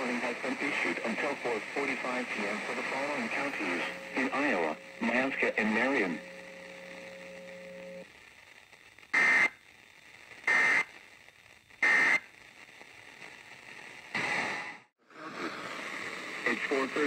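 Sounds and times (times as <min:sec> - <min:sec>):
radio speaker hiss: 0:00.0 - 0:17.0
rough noise burst: 0:00.0 - 0:17.0.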